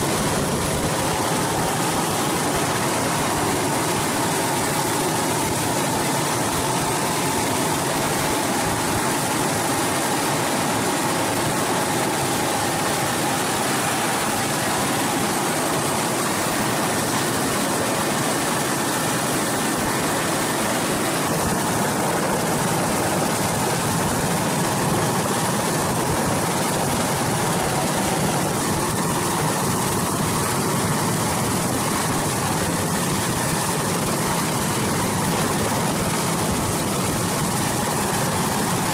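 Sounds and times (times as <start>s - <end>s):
helicopter turbines and rotor: 0.0s - 38.9s.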